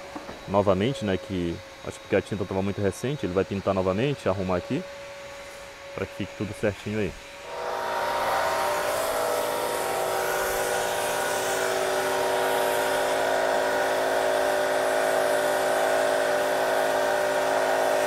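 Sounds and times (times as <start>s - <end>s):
pressure washer motor hum: 0.0s - 18.0s.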